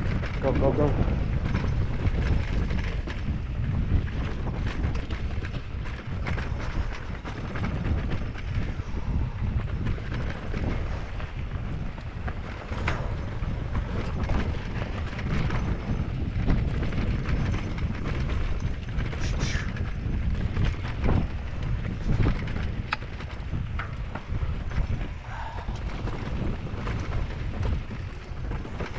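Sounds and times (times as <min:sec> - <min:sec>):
bike rattling over bumps: 0:00.0 - 0:28.9
tyre and wind rumble: 0:00.0 - 0:28.9.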